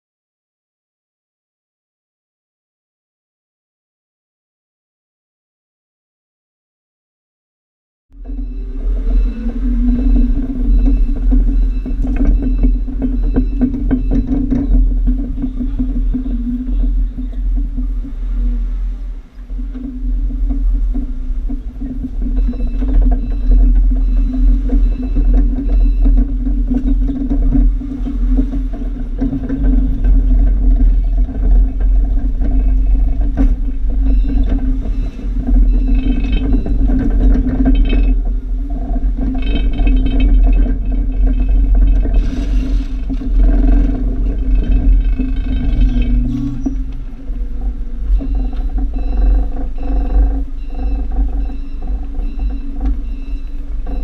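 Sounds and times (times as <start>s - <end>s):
forklift engine drone: 8.2s - 54.0s.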